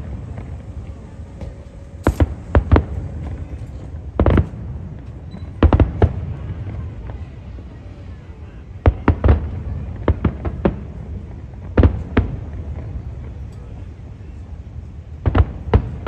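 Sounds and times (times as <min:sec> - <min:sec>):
fireworks bangs: 0:00.0 - 0:07.4, 0:08.7 - 0:13.4, 0:15.1 - 0:16.0
low background noise: 0:00.0 - 0:16.0.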